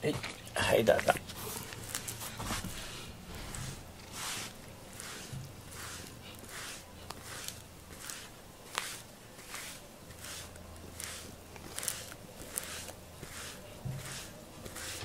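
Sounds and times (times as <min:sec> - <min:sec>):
glove stroking cat fur: 0:01.0 - 0:15.0.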